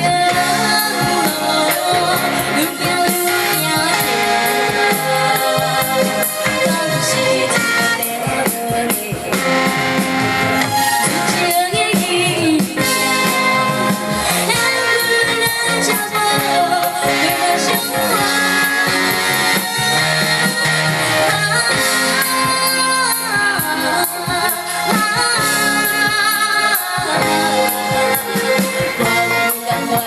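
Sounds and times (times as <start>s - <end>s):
woman singing: 0.0s - 9.8s, 10.8s - 30.0s
live band playing pop music: 0.0s - 30.0s.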